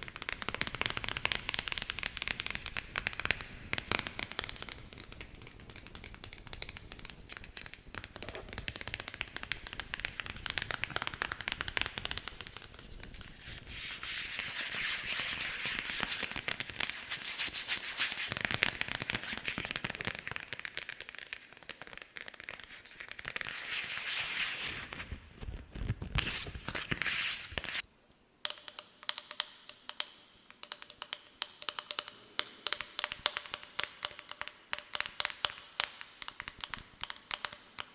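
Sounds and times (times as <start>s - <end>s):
rapid crackling taps and scratches: 0.0s - 27.8s, 28.4s - 37.9s.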